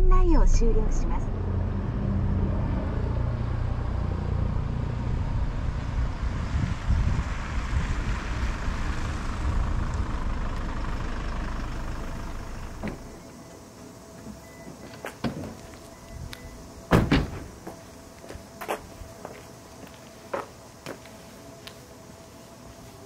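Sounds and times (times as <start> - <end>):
van engine and road rumble: 0.0 - 23.0.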